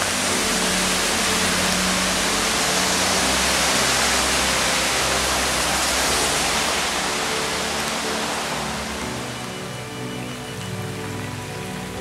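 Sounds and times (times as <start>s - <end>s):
floodwater rushing over rocks: 0.0s - 12.0s.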